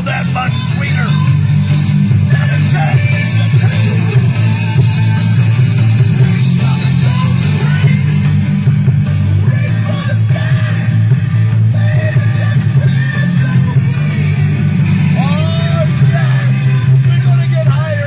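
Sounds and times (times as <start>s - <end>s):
loud rock music with singing: 0.0s - 18.0s.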